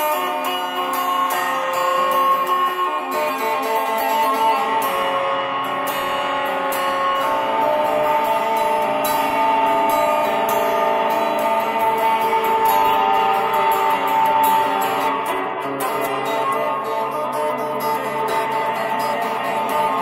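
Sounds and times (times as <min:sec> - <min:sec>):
guitar playing: 0:00.0 - 0:20.0.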